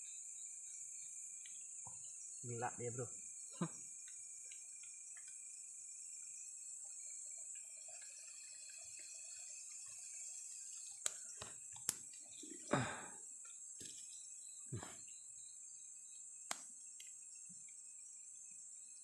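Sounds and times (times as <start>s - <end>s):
night insects droning: 0.0s - 19.0s.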